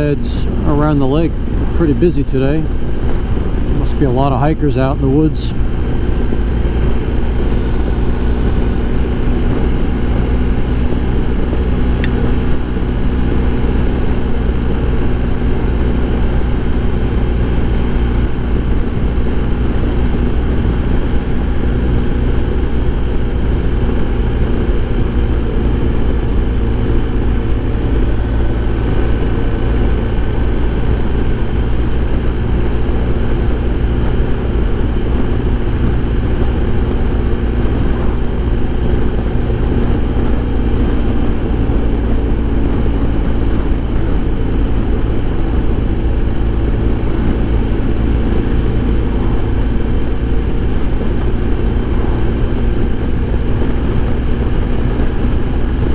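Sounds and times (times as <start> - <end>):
motorcycle engine cruising: 0.0 - 55.9.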